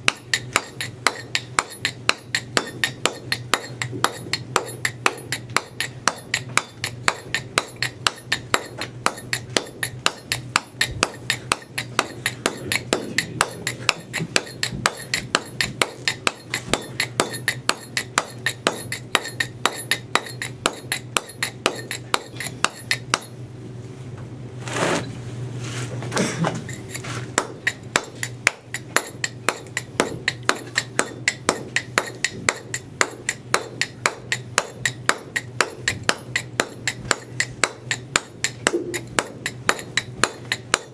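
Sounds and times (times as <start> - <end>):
other knocks: 0.0 - 23.3, 26.2 - 40.9
mallet striking metal chisel on stone: 0.0 - 23.4, 26.7 - 40.9.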